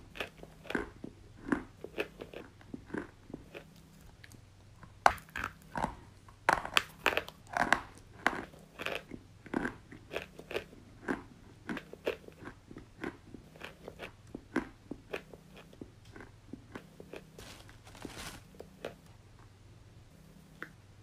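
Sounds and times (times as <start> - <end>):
chalk crunching while chewed: 0.1 - 19.1.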